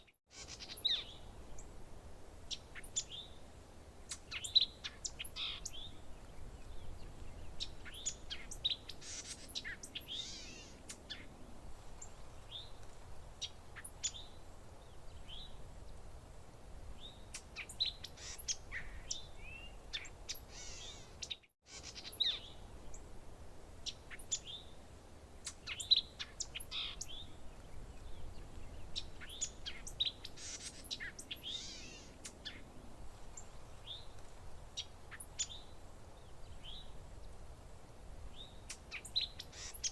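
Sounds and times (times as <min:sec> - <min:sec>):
faint low background hiss: 0:00.0 - 0:39.9.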